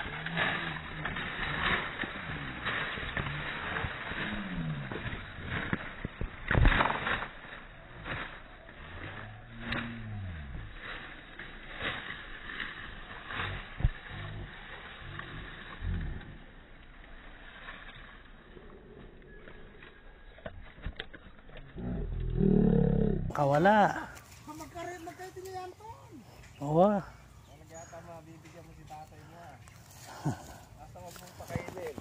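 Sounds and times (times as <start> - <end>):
footsteps on dry leaves: 0.0 - 21.5, 23.3 - 32.0.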